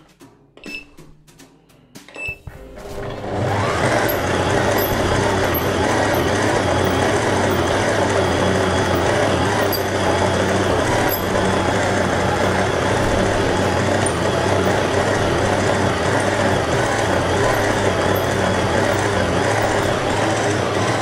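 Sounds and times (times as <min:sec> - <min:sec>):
stand mixer motor humming: 0:03.0 - 0:21.0.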